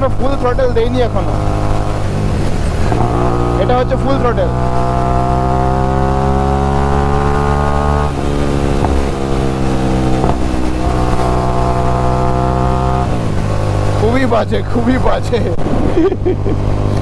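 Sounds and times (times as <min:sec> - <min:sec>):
motorcycle accelerating: 0:00.0 - 0:17.0.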